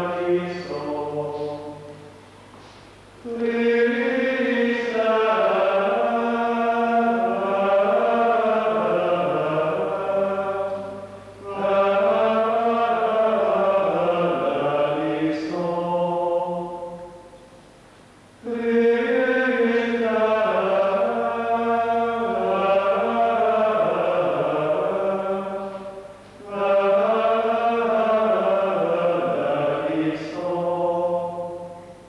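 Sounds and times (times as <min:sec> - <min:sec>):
voices chanting: 0:00.0 - 0:02.1, 0:03.2 - 0:17.2, 0:18.4 - 0:31.8.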